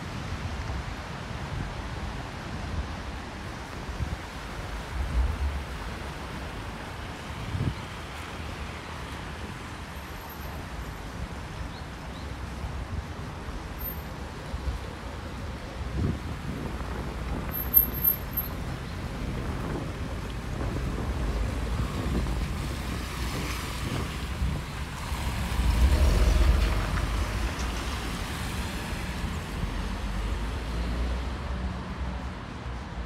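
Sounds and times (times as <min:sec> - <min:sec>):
wind rumble on microphone: 0:00.0 - 0:09.9, 0:11.1 - 0:33.0
traffic noise: 0:00.0 - 0:33.0.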